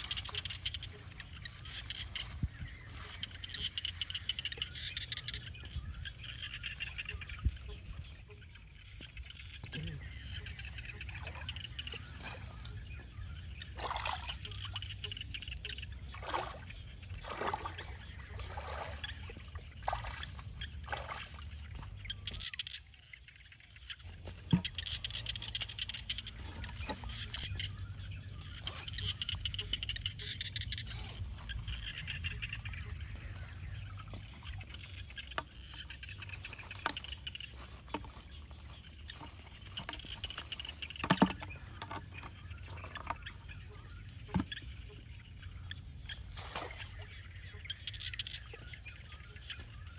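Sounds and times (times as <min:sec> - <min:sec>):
water trickling and dripping: 0:00.0 - 0:49.8.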